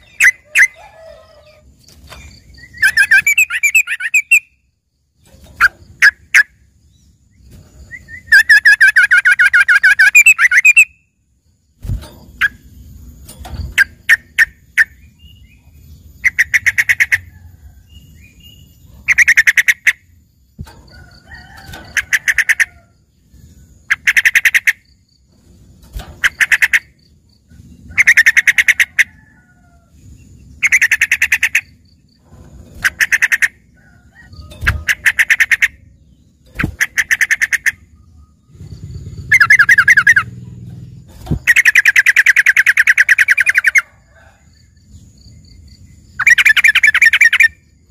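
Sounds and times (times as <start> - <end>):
bulbul singing chattering trills: 0.0 - 29.2, 30.0 - 47.9.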